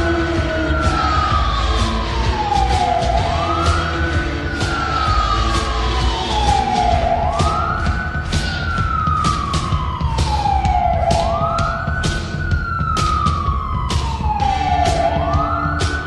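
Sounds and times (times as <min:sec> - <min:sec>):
goal siren wailing: 0:00.0 - 0:16.0.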